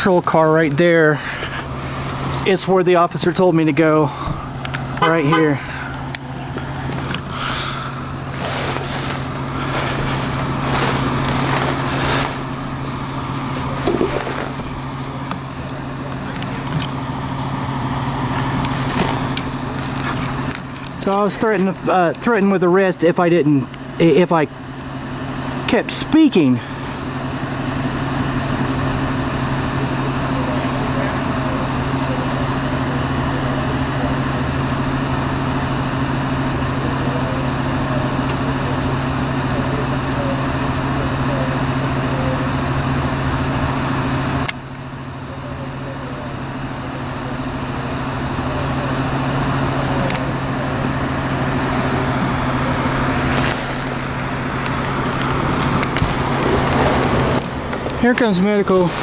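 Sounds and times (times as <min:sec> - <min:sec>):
faint voices: 0:00.0 - 0:22.9, 0:26.4 - 0:59.0
street noise: 0:00.0 - 0:59.0
vehicle engine idling: 0:00.0 - 0:59.0.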